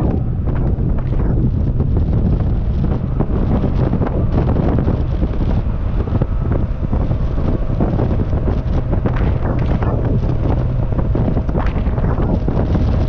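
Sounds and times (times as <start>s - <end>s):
car engine droning: 0.0s - 13.0s
wind buffeting microphone: 0.0s - 13.0s.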